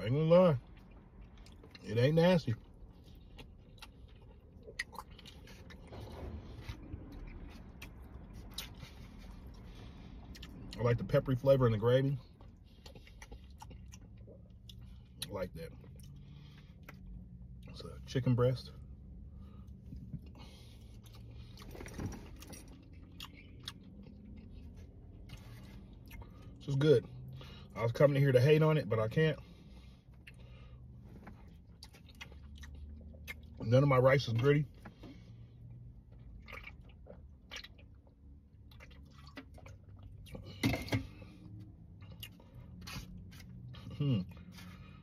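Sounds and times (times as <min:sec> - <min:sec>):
man chewing food: 0:00.6 - 0:01.9, 0:02.6 - 0:10.8, 0:12.1 - 0:17.8, 0:18.8 - 0:27.7, 0:29.4 - 0:33.6, 0:34.8 - 0:45.0.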